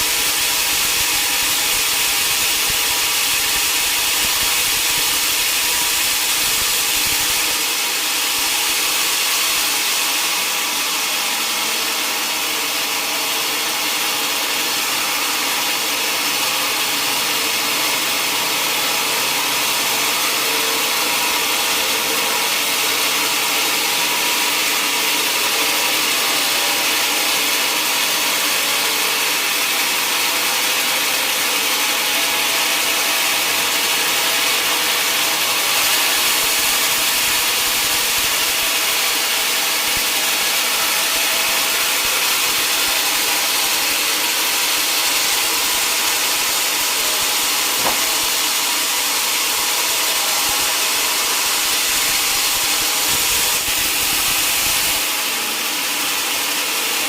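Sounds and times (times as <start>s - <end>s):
saw blade cutting wood: 0.0s - 57.0s.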